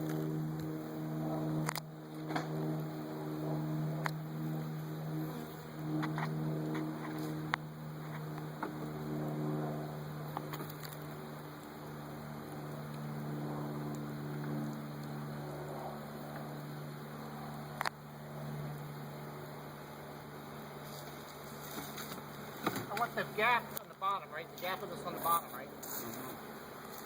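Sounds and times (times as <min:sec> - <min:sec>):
bees humming: 0:00.0 - 0:27.0.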